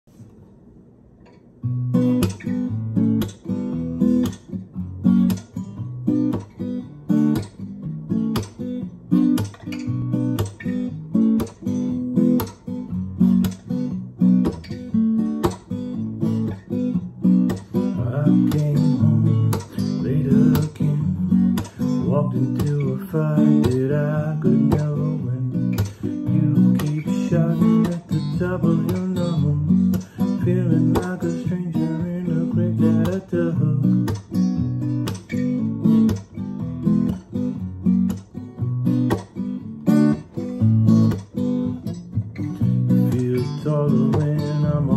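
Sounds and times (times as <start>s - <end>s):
acoustic guitar strumming: 1.4s - 44.9s.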